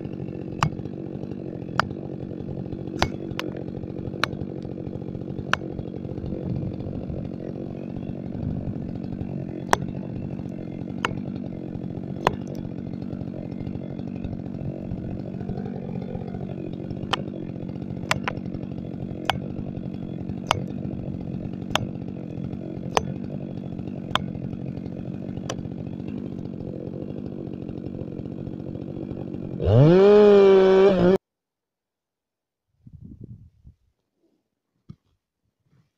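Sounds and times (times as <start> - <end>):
chainsaw running at high speed: 0.0 - 31.2.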